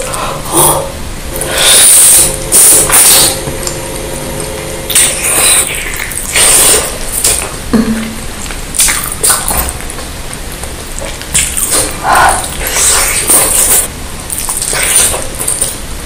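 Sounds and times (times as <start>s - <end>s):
wet chewing and mouth smacking: 2.8s - 15.8s.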